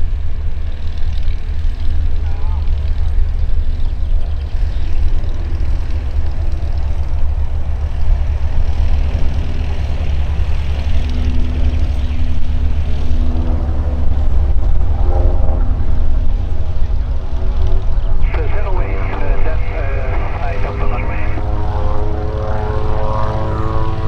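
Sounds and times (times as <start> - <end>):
propeller aircraft droning overhead: 0.0 - 24.0
unsteady low rumble: 0.0 - 24.0.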